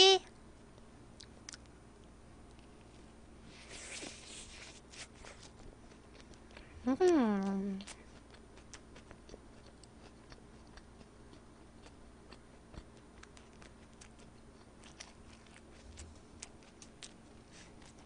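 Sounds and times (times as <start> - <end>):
person chewing food: 0.8 - 2.9, 4.2 - 18.0.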